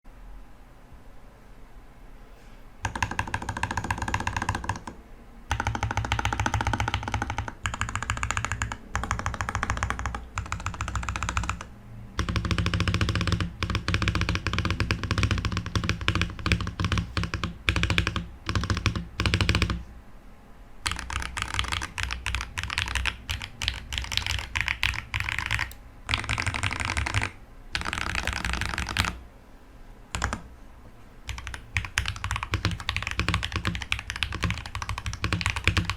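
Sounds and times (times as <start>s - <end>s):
mechanical keyboard typing: 2.8s - 19.9s, 20.8s - 29.2s, 30.1s - 30.5s, 31.2s - 35.9s.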